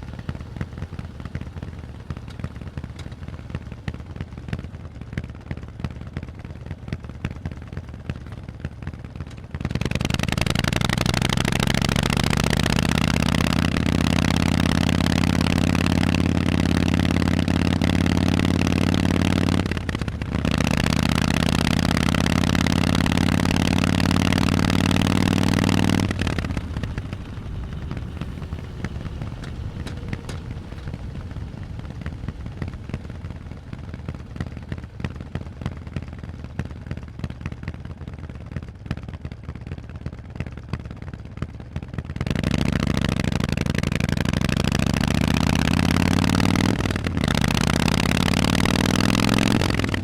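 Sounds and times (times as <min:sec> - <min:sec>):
motorcycle engine revving: 0:00.0 - 0:06.1, 0:09.1 - 0:50.0.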